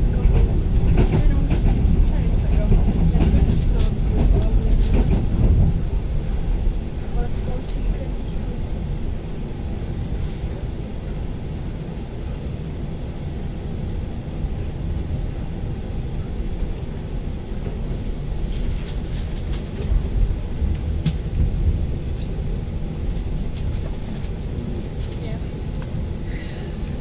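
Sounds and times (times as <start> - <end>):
electric train rumbling along track: 0.0 - 27.0.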